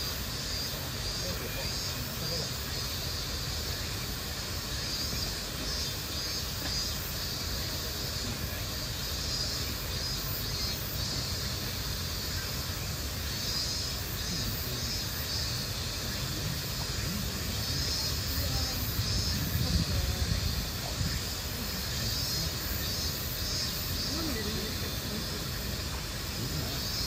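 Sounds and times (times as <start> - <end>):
continuous hiss: 0.0 - 27.0.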